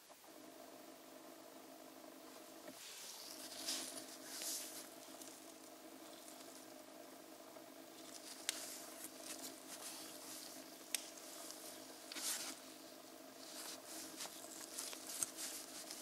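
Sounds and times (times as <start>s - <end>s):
steady low hum: 0.0s - 16.0s
rustling: 2.2s - 16.0s.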